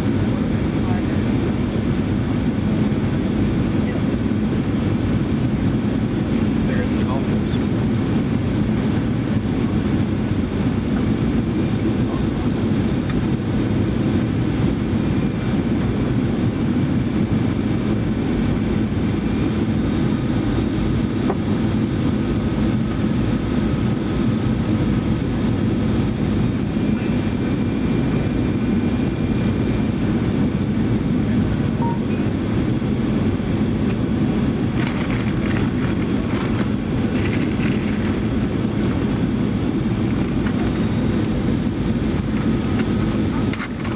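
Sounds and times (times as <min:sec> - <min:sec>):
airplane cabin engine rush: 0:00.0 - 0:43.9
faint steady whines: 0:00.0 - 0:43.9.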